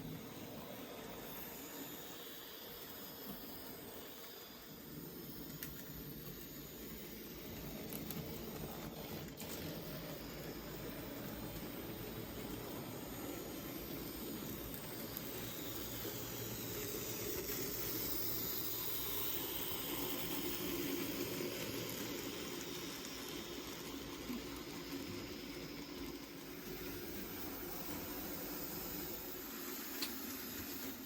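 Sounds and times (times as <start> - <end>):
model train whirring on track: 0.0 - 31.0.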